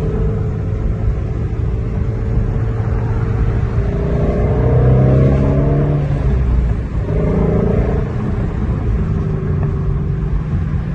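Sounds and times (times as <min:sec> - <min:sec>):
vehicle engine revving: 0:00.0 - 0:10.9.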